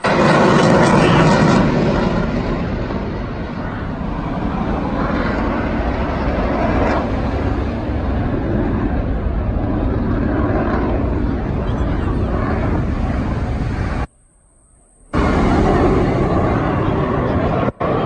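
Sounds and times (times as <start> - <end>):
distant airplane engine drone: 0.0 - 18.0.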